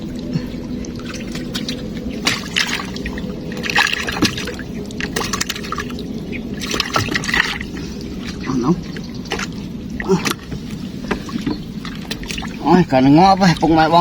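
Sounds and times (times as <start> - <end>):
steady low hum: 0.0 - 14.0
water sloshing and splashing: 0.0 - 14.0.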